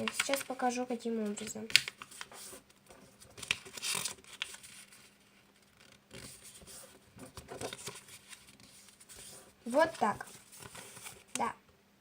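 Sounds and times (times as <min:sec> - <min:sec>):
paper rustling as it is folded: 0:00.0 - 0:11.4.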